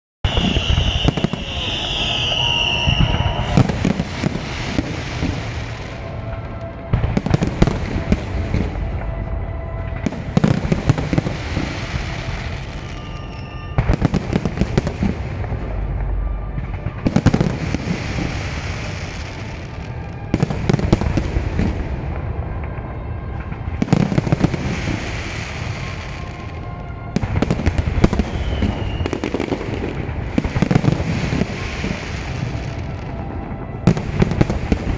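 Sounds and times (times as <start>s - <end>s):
firework whistle: 0.2s - 34.9s
fireworks bangs and crackling: 0.2s - 34.9s.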